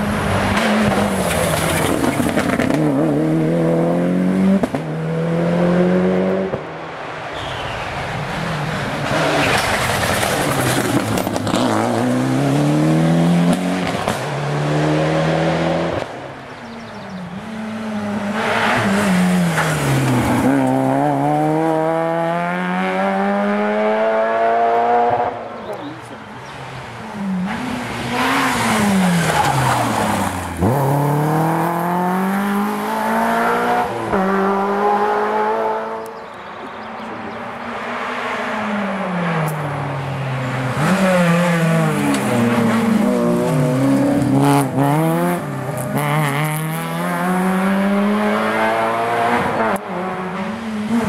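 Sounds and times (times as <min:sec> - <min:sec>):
rally cars passing revving: 0:00.0 - 0:51.0.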